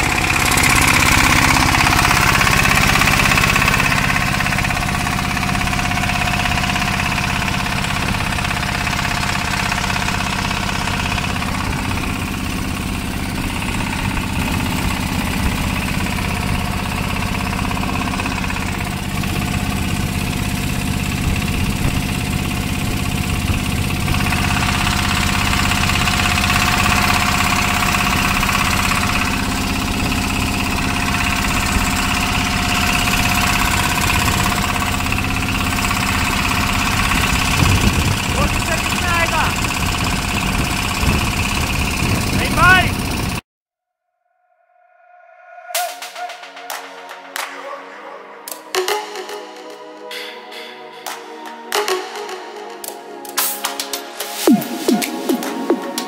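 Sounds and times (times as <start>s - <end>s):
boat engine running: 0.0s - 43.4s, 54.3s - 56.0s.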